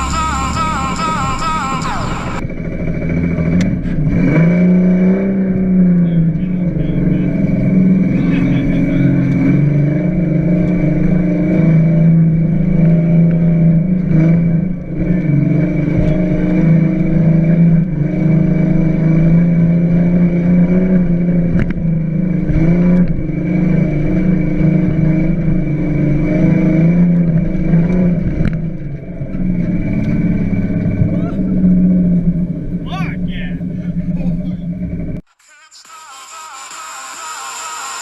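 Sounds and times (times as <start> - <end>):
truck engine running hard: 0.0 - 35.4.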